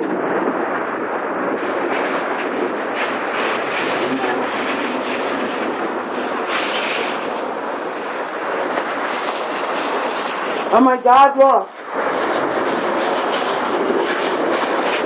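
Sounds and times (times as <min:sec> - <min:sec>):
hose spraying water onto concrete: 0:01.6 - 0:15.0.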